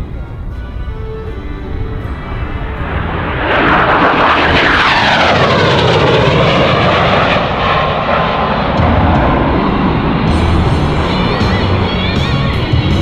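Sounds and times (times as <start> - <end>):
jet aircraft passing with whine: 0.0 - 13.0.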